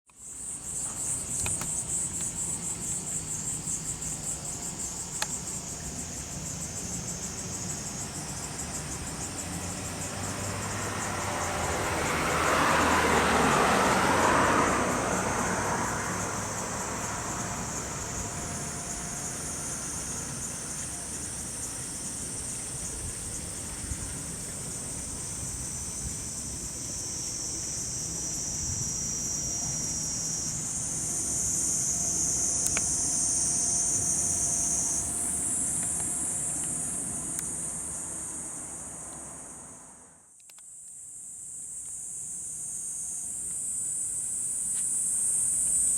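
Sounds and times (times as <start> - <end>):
cicadas singing: 0.1 - 45.9.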